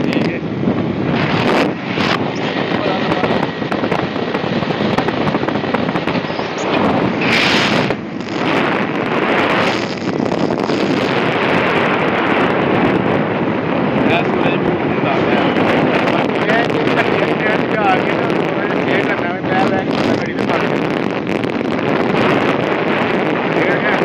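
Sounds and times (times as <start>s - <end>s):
moving vehicle running noise: 0.0s - 24.0s
wind on microphone: 0.0s - 24.0s.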